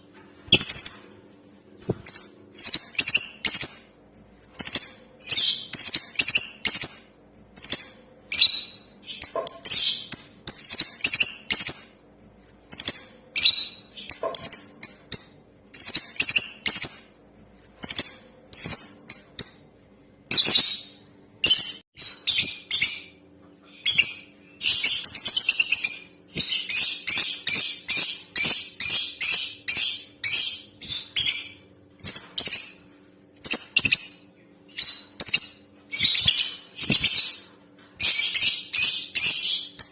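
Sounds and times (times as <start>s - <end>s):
lovebird chirping: 0.5s - 1.3s, 1.9s - 12.1s, 12.7s - 17.2s, 17.8s - 39.9s.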